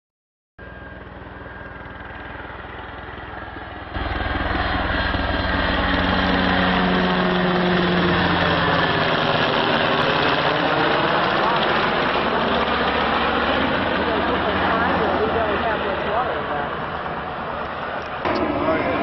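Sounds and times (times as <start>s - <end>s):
engine whine: 0.6s - 19.0s
helicopter rotor beat: 0.6s - 19.0s.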